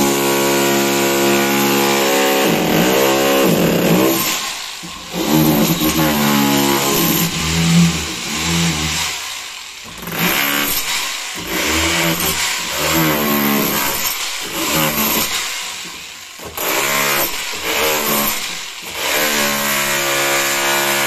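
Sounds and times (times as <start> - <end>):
demolition hammer breaking brick: 0.0 - 7.7, 9.9 - 15.5, 16.4 - 21.0.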